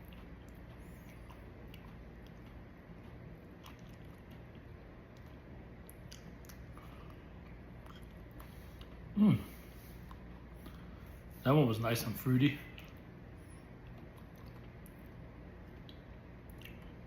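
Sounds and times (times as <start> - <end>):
chewing with wet clicks: 0.0 - 9.1, 10.0 - 11.0, 12.6 - 17.0
low room hum: 0.0 - 17.0.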